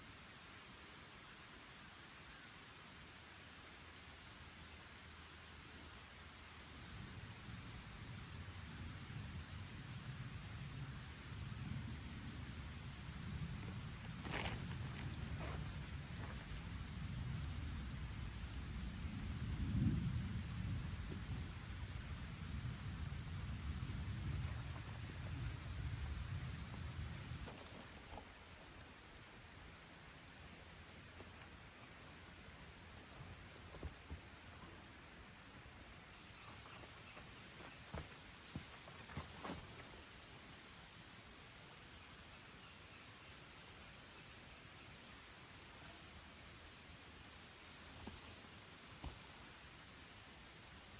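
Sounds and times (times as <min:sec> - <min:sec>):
crickets chirring: 0:00.0 - 0:50.9.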